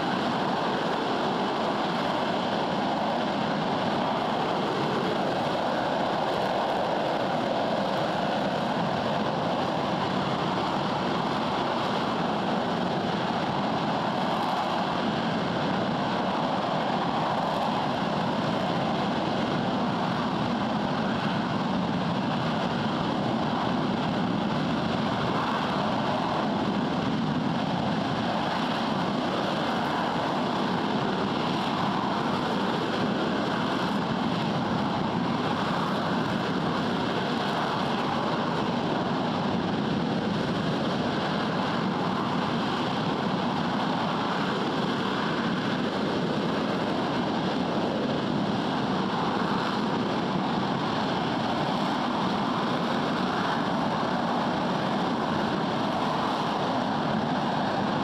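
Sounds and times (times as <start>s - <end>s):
rocket engine roaring: 0.0s - 58.0s.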